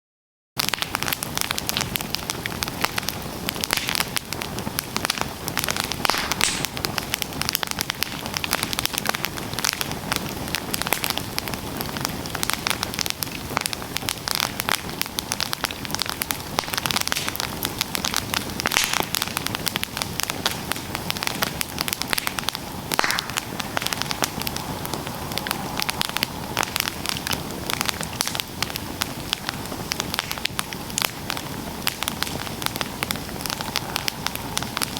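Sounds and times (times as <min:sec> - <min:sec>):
burning wood popping: 0:00.6 - 0:34.9
campfire crackling: 0:00.6 - 0:34.9.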